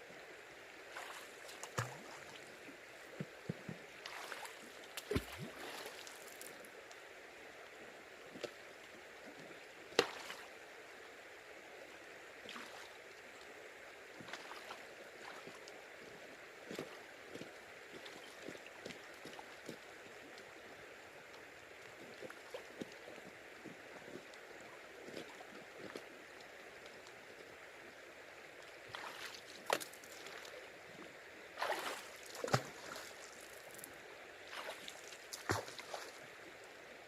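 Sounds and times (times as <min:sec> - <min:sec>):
river water running: 0:00.0 - 0:37.0.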